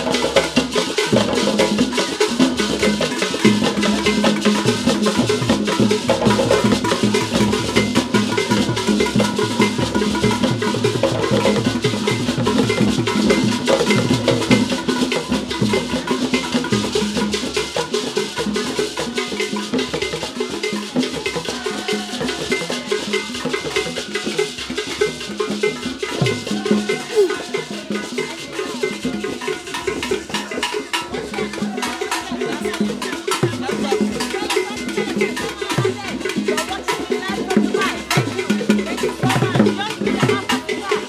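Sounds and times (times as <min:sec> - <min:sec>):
hand drums fast dance rhythm: 0:00.0 - 0:41.0.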